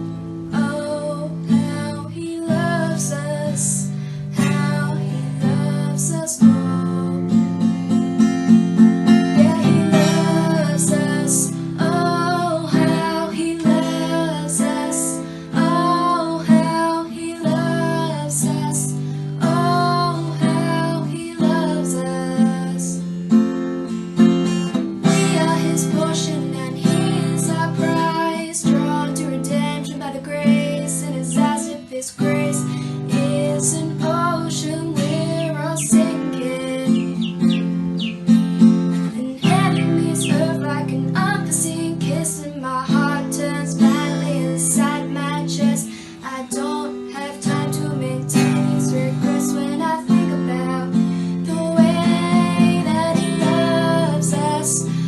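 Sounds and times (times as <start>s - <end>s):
strummed acoustic guitar: 0.0s - 55.0s
person singing: 0.5s - 7.4s, 9.1s - 23.1s, 25.0s - 55.0s.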